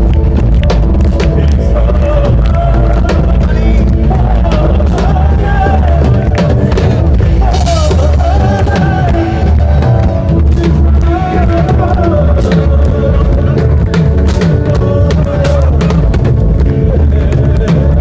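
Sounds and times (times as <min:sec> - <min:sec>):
drum kit beat: 0:00.0 - 0:18.0
loud rock music: 0:00.0 - 0:18.0.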